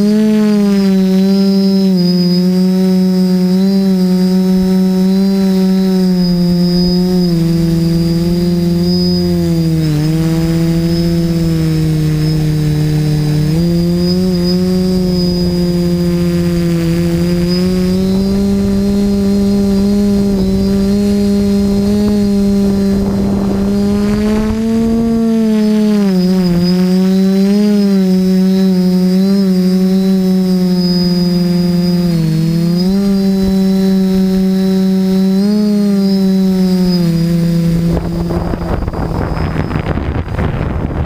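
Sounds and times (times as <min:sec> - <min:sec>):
drone propellers humming: 0:00.0 - 0:41.0
high motor whine: 0:00.0 - 0:41.0.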